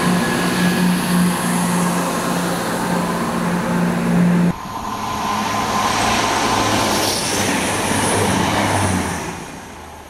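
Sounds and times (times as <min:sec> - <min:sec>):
train passing at speed: 0:00.0 - 0:10.0.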